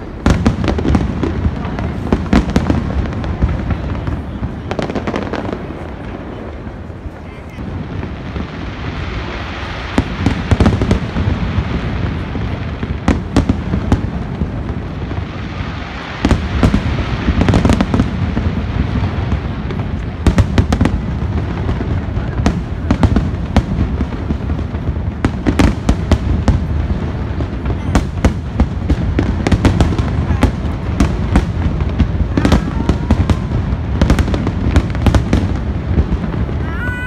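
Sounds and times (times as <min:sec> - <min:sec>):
fireworks shells booming: 0:00.0 - 0:37.0
sharp firework crackles: 0:00.0 - 0:37.0.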